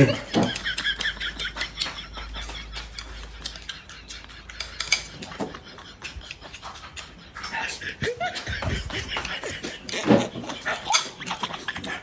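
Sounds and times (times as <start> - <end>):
person chewing: 2.2 - 12.0.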